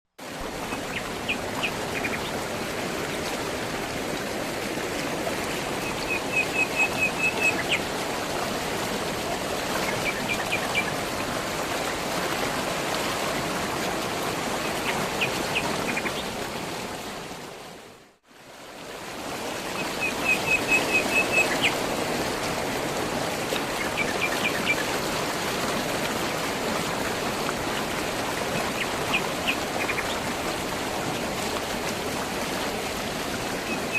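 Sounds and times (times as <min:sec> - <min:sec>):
stream flowing: 0:00.2 - 0:33.9.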